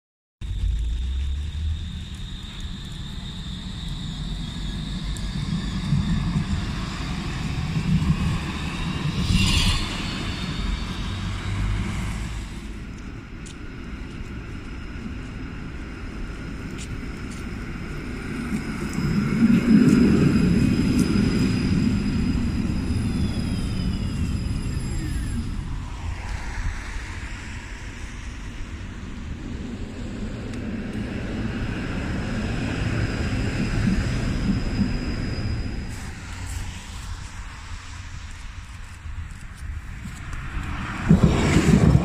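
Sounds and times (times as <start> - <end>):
high electric whine: 0.4 - 42.0
tram wheels rumbling on rails: 0.4 - 42.0.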